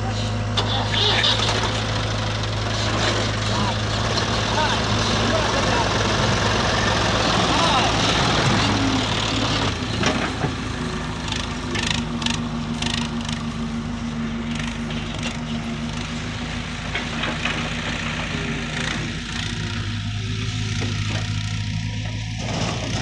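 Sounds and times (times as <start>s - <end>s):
diesel engine under load: 0.0s - 23.0s.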